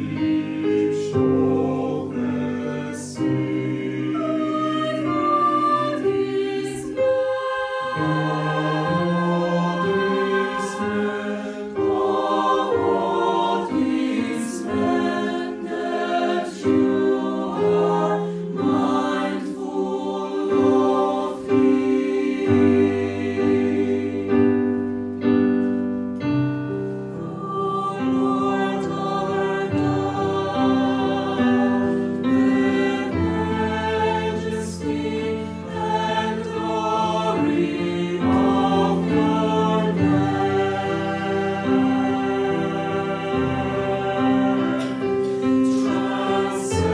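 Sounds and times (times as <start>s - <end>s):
mixed choir singing a carol: 0.0s - 46.9s.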